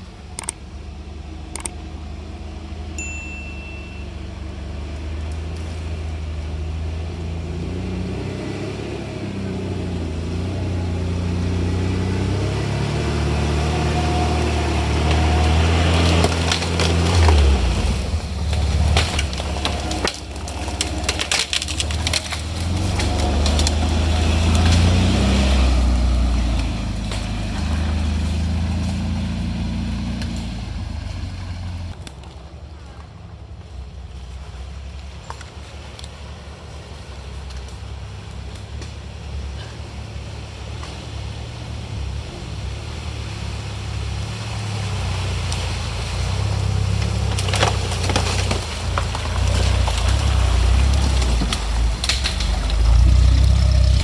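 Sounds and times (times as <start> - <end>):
off-road vehicle engine revving: 4.1 - 32.2, 34.1 - 54.0
loud crackling and crunching: 4.9 - 54.0.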